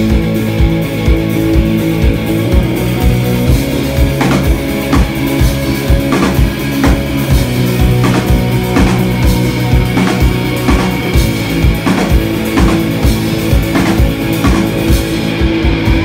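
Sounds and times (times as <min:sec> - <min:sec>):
electric guitar chords: 0:00.0 - 0:16.0
kick drum beat: 0:00.2 - 0:16.0
snare or cymbal hits: 0:03.1 - 0:16.0.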